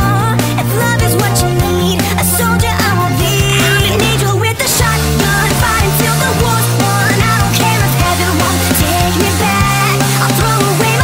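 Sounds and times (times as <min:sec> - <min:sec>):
rock band with drums: 0:00.0 - 0:11.0
sped-up high vocal singing: 0:00.0 - 0:11.0.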